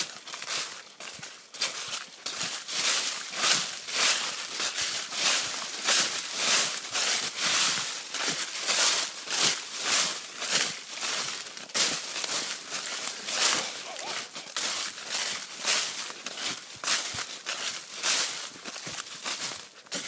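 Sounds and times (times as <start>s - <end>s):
footsteps in dry leaves: 0.0s - 20.0s.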